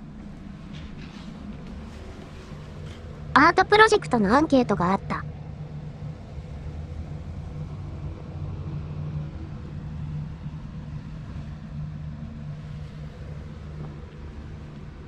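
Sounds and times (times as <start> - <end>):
low rumble with wavering hum: 0.0 - 15.0.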